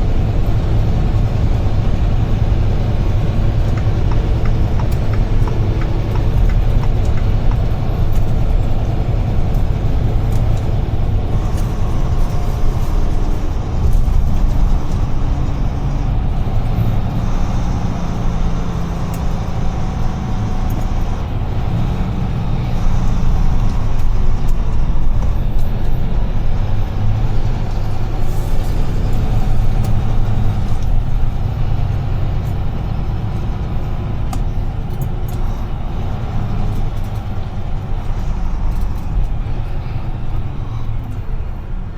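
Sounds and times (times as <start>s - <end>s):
truck engine and road noise: 0.0s - 41.9s.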